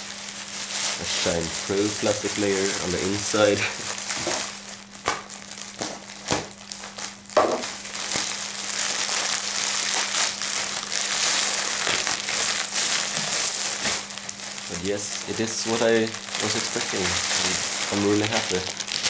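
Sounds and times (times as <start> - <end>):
plastic mailer bag crinkling: 0.0 - 19.0.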